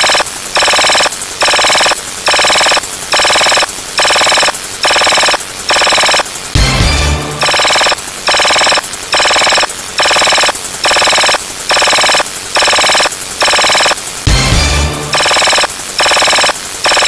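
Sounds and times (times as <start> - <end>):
electronic ringtone bursts: 0.0 - 6.3, 7.3 - 14.0, 15.0 - 17.0.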